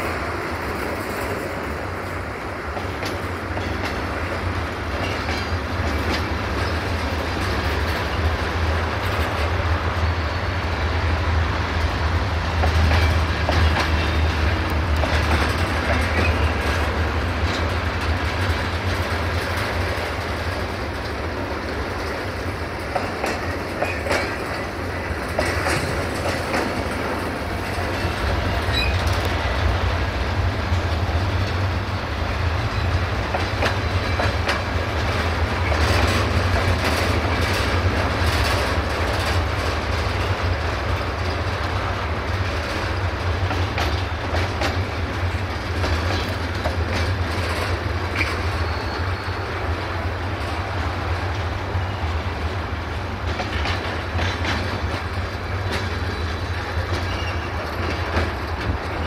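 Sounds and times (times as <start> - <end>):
wheels clattering over rail joints: 0.0 - 10.8, 11.8 - 59.0
train rumbling: 0.0 - 59.0.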